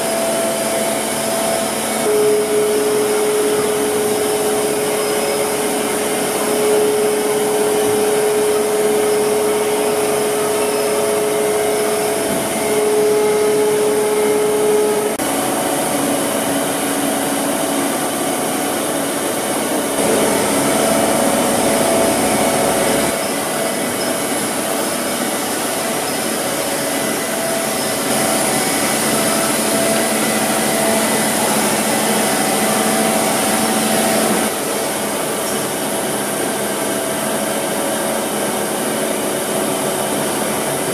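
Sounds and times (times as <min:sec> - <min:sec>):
milling machine humming: 0:00.0 - 0:40.9
spindle whine: 0:00.0 - 0:40.9.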